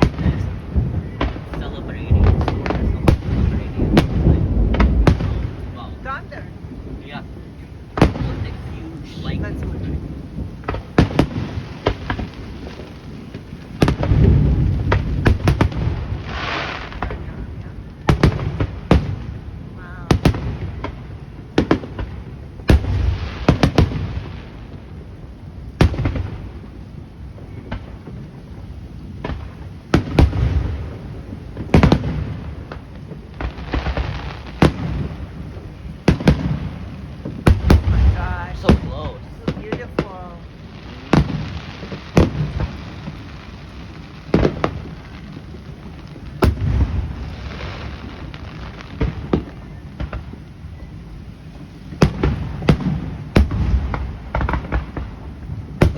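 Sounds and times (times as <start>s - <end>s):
low rumbling echo: 0.0s - 55.8s
fireworks bursting: 0.0s - 55.9s.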